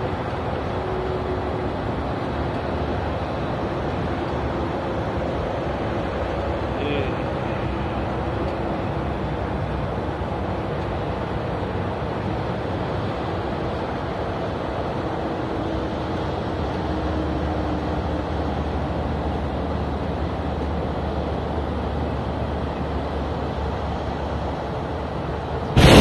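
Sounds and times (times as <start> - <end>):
highway traffic rumble and hiss: 0.0 - 26.0.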